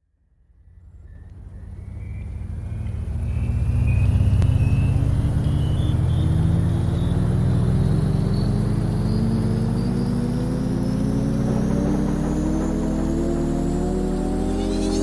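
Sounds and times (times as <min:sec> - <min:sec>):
low drone: 0:00.4 - 0:15.0
faint high rising tone: 0:00.6 - 0:15.0.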